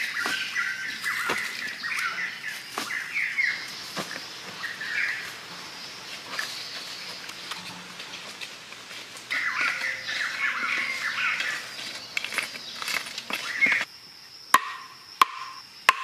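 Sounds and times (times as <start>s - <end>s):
birds chirping: 0.0s - 13.9s
insects droning: 0.0s - 16.0s.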